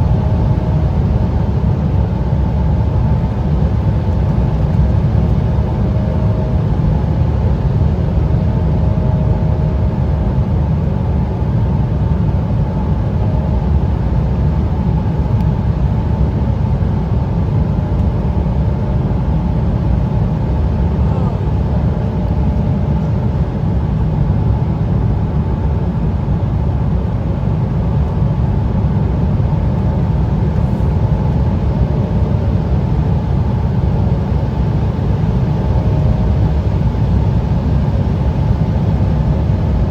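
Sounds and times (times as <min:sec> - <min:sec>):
jet cabin rumble: 0:00.0 - 0:39.9.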